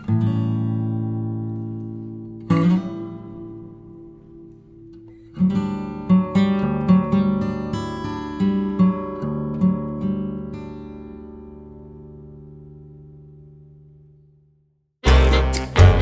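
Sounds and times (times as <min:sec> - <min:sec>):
acoustic guitar strumming: 0:00.0 - 0:14.1, 0:15.0 - 0:16.0.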